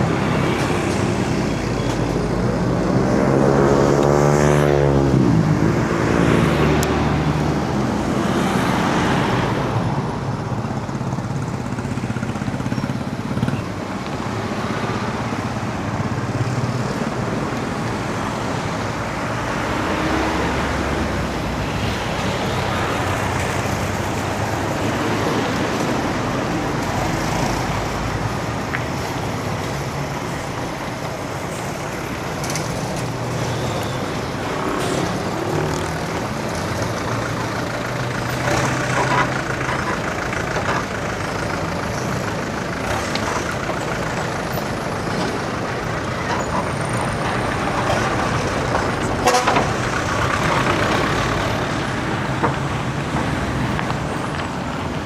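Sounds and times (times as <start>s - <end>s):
road noise: 0.0s - 55.0s
trucks and cars passing: 0.0s - 55.0s.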